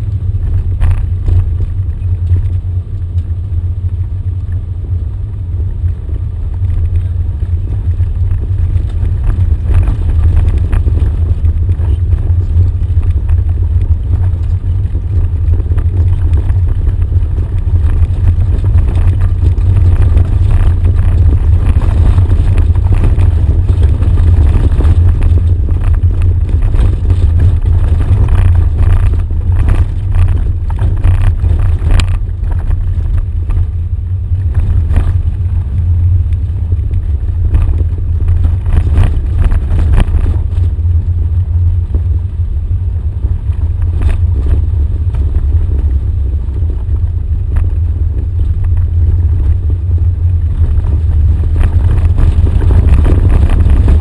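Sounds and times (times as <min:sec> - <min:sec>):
off-road vehicle engine rumble: 0:00.0 - 0:54.0
knocks and rattles over bumps: 0:05.8 - 0:54.0.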